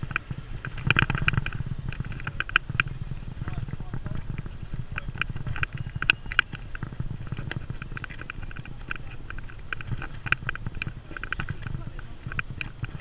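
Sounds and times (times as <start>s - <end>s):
footsteps on asphalt: 0.0s - 13.0s
steady low rumble: 0.0s - 13.0s.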